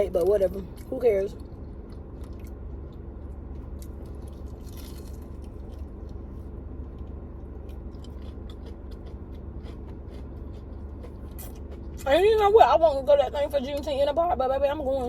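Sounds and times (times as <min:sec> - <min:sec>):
low hum: 0:00.0 - 0:15.0
chewing crispy chicken: 0:00.2 - 0:12.4.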